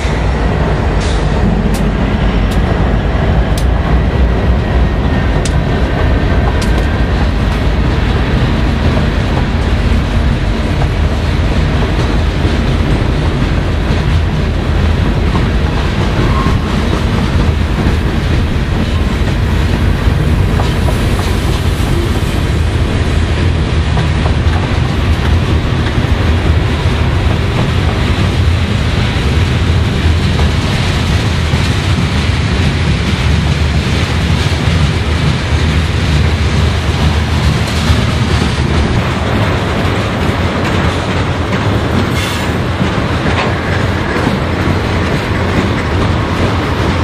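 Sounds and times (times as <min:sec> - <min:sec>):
freight train rumbling past: 0:00.0 - 0:47.0
wheels clacking over rail joints: 0:00.0 - 0:47.0.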